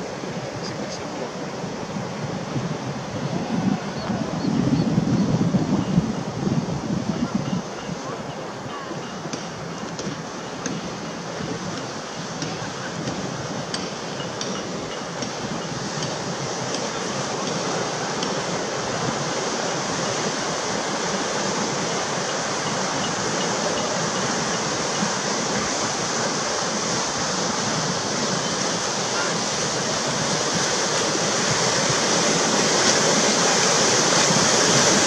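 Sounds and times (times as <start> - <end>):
whitewater churning: 0.0 - 35.0.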